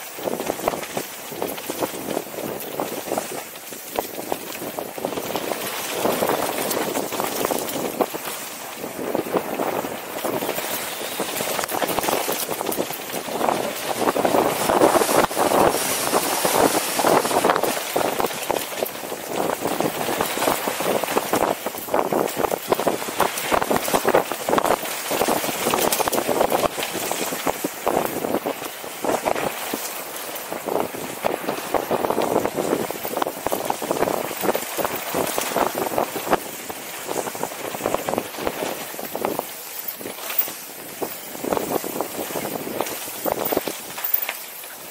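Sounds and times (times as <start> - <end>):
bike clattering over bumps: 0.0 - 44.9
bike tyres over dirt and gravel: 0.0 - 44.9
wind on microphone: 0.0 - 44.9.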